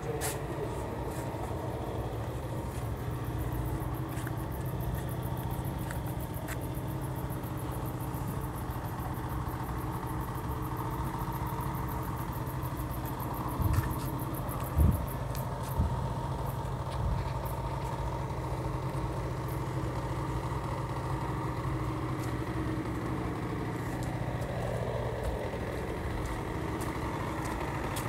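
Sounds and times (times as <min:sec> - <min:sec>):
motor idling hum: 0:00.0 - 0:28.0.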